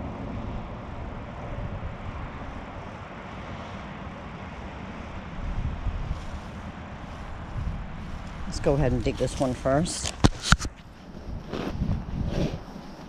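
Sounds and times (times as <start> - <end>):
distant engine drone: 0.0 - 13.0.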